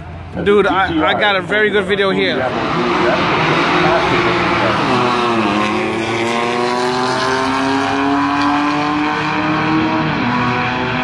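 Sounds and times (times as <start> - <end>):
car engine at full throttle: 0.0 - 11.0.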